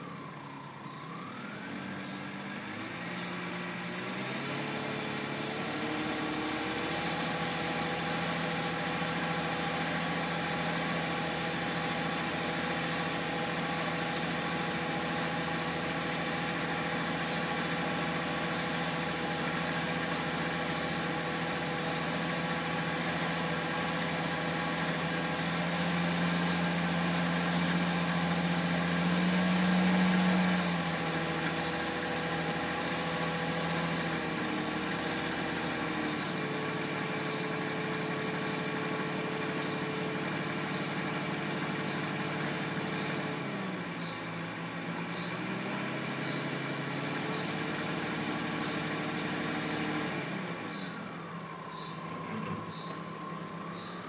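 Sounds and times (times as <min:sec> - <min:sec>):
car engine revving under load: 0:00.0 - 0:54.0.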